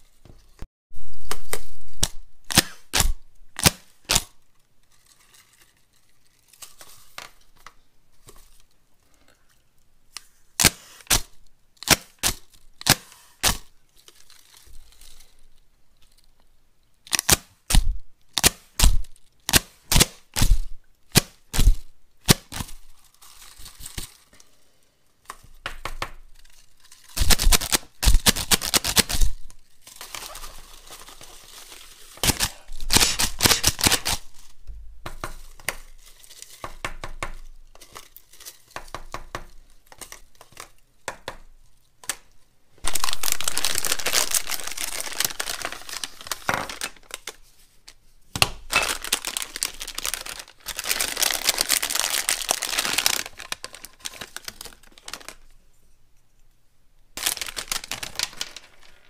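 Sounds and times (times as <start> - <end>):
paper and foil crinkling: 0.0 - 9.6, 10.6 - 16.4, 17.1 - 34.6, 35.2 - 40.9, 42.8 - 55.6, 57.2 - 59.0.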